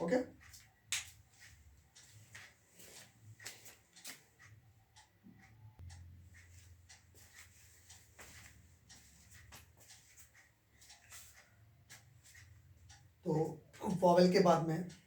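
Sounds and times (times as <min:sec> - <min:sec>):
soft ticks and scratches: 0:00.3 - 0:15.0.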